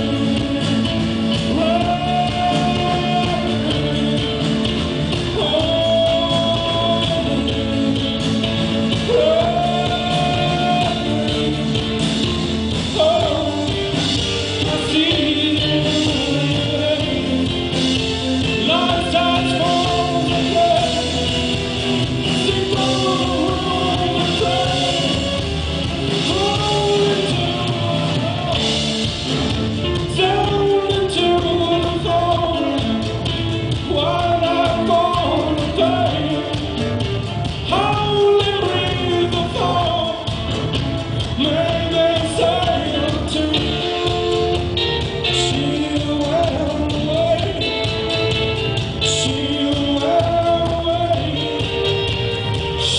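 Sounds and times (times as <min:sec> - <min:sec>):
live rock band with vocals: 0:00.0 - 0:52.9.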